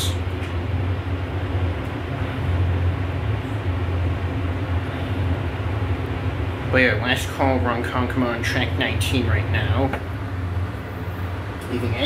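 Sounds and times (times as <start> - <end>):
elevator low hum: 0.0 - 12.0.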